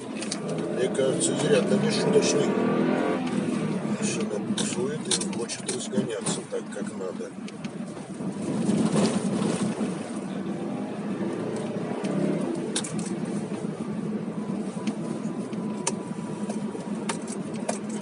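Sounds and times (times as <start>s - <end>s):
car engine and tyres humming: 0.0s - 18.0s.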